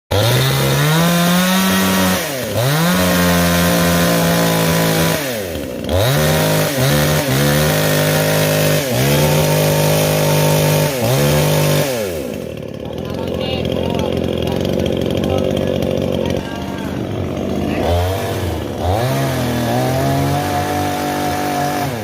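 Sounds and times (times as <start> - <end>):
chainsaw revving: 0.1 - 22.0.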